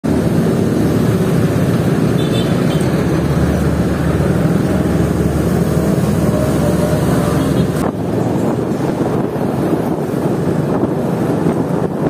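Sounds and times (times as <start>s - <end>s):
road noise: 0.0s - 12.0s
motorcycle engine rumbling: 0.1s - 12.0s.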